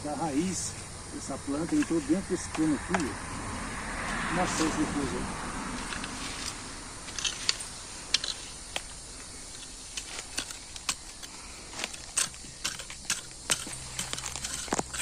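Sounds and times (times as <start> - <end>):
twigs and leaf litter crackling: 0.0 - 3.2, 4.0 - 15.0
faint steady hiss: 0.0 - 15.0.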